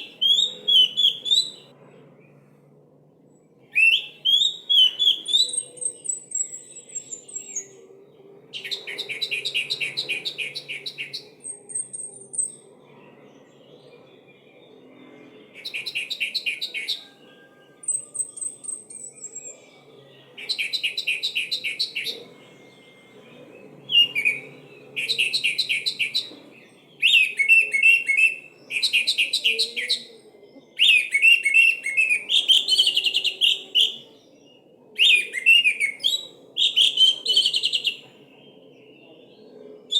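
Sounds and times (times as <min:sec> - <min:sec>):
thrush chattering song: 0:00.0 - 0:39.0.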